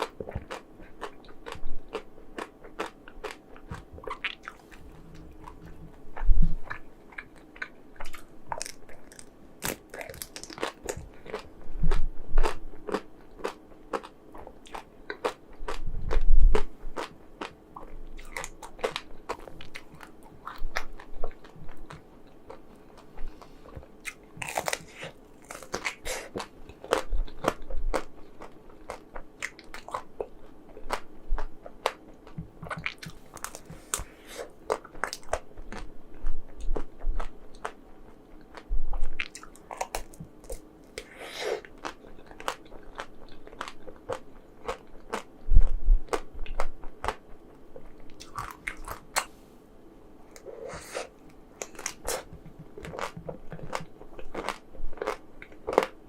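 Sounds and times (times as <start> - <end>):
chewing: 0.0 - 49.4, 50.4 - 56.0
crunchy coating cracking: 0.0 - 49.4, 50.3 - 56.0.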